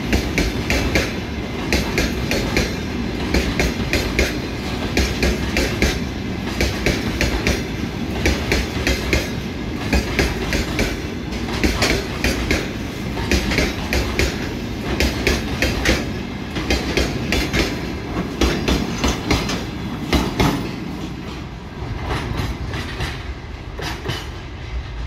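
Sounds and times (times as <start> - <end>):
wagon wheels clacking over rail joints: 0.1 - 23.2.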